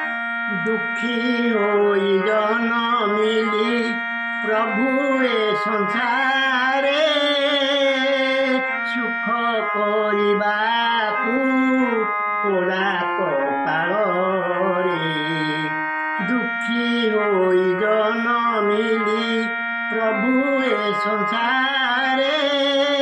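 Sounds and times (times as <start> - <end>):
man singing devotional song: 0.0 - 23.0
sustained keyboard accompaniment: 0.0 - 23.0.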